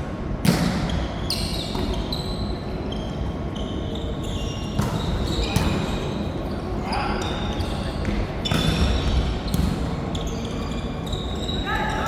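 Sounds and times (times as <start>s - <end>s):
hum of large hall: 0.0s - 12.0s
sneakers squeaking on court: 0.9s - 12.0s.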